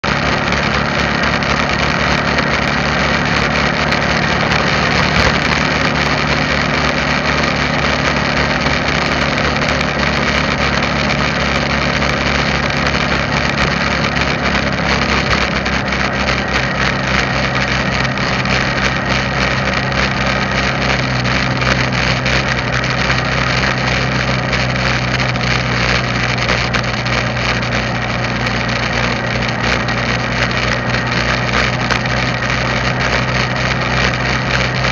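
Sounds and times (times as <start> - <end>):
road noise: 0.0 - 34.9
vehicle engine running: 0.0 - 34.9.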